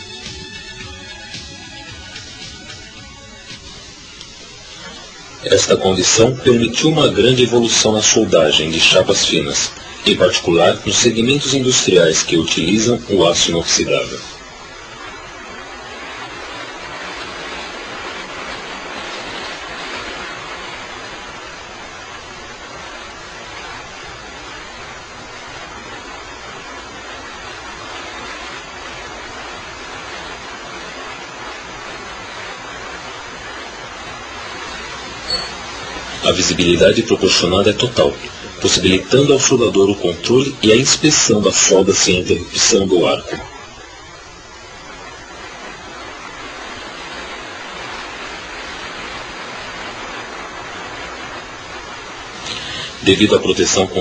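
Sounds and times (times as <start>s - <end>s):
welding arc hiss: 0.0s - 54.0s.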